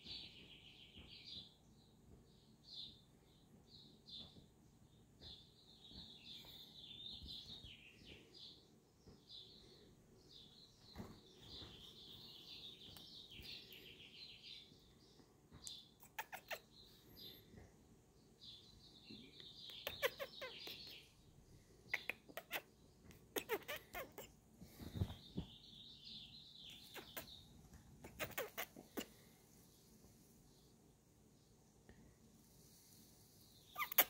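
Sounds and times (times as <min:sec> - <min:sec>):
faint birds chirping and twittering: 0:00.0 - 0:34.0.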